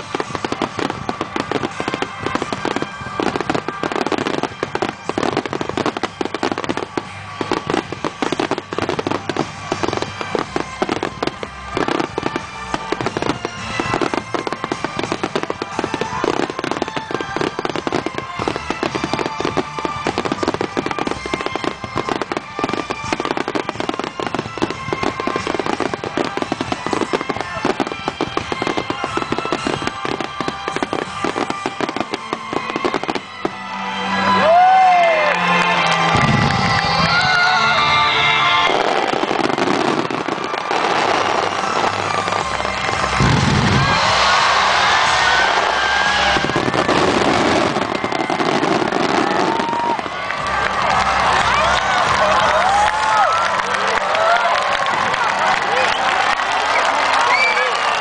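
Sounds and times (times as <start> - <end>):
fireworks bursting: 0.0 - 34.4, 35.8 - 58.0.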